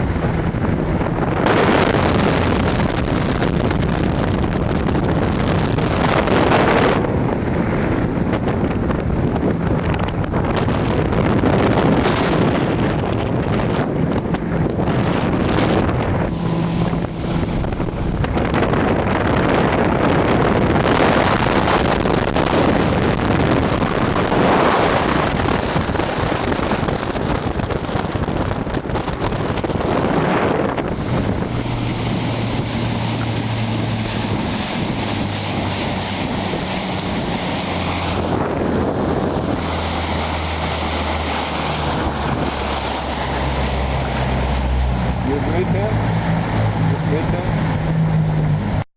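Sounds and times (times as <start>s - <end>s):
boat outboard motor running: 0.0s - 48.8s
wind buffeting microphone: 0.0s - 48.8s.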